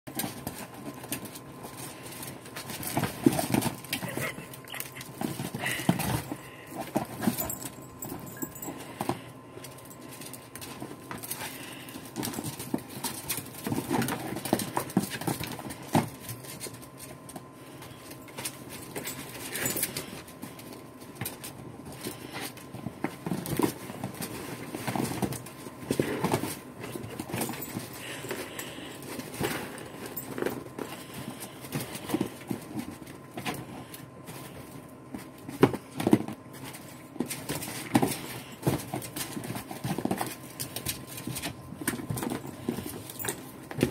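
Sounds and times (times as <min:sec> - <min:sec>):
ferrets scratching: 0:00.1 - 0:43.9.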